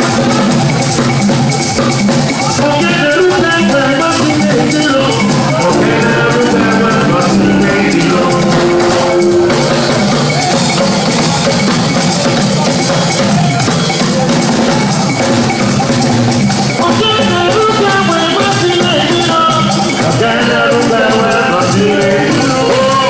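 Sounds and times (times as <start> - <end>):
drums and hand percussion: 0.0 - 23.0
live band playing: 0.0 - 23.0.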